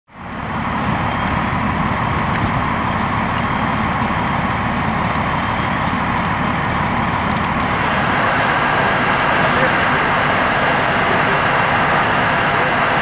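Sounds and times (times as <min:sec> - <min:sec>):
faint fire crackles: 0:00.1 - 0:13.0
fire truck engines rumbling: 0:00.1 - 0:13.0.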